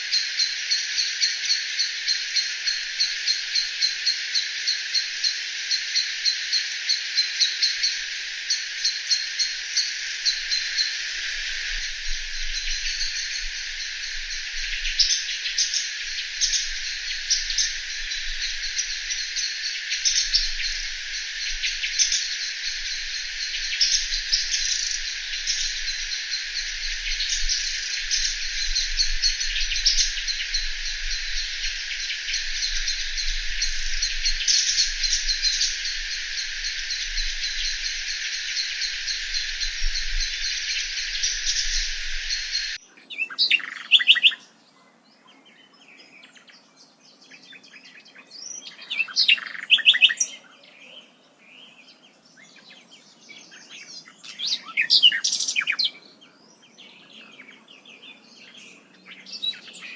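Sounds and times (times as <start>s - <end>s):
pulsing insect chirps: 0.0s - 44.4s, 48.6s - 50.4s, 53.5s - 56.0s
insect chorus hiss: 0.0s - 59.9s.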